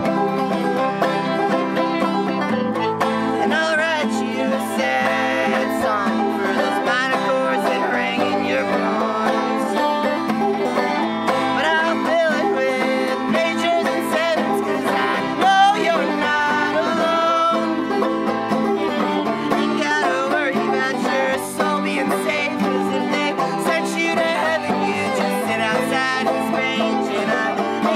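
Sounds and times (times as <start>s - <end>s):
acoustic group playing a song: 0.0s - 27.9s.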